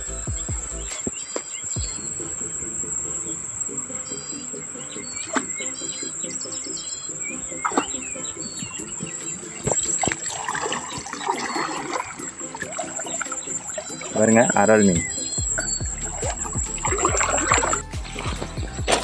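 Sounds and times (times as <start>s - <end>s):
bird chirps: 0.0s - 19.0s
water splashing: 0.0s - 19.0s.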